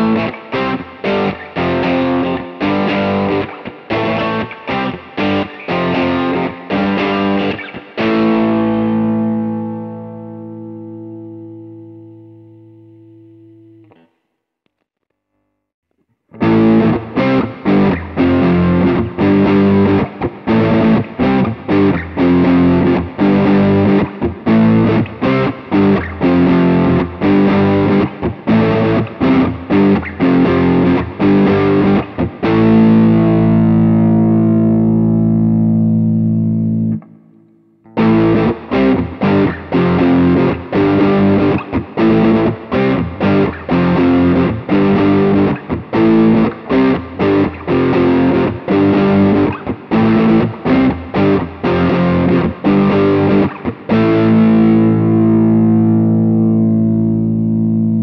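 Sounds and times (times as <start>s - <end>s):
overdriven electric guitar riffs: 0.0s - 14.2s, 16.3s - 58.0s.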